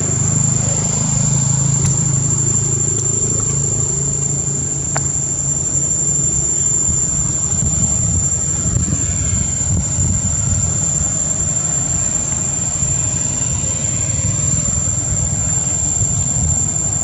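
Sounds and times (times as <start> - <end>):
high-pitched insect chorus: 0.0 - 17.0
low unsteady rumble: 0.0 - 17.0.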